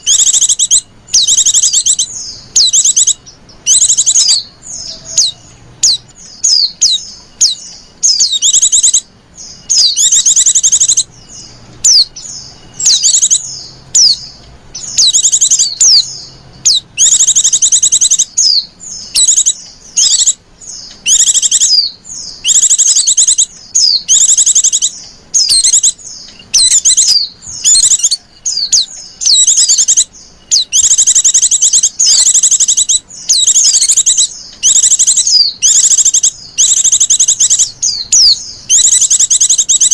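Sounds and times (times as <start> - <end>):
small bird chirping and trilling: 0.0 - 39.9.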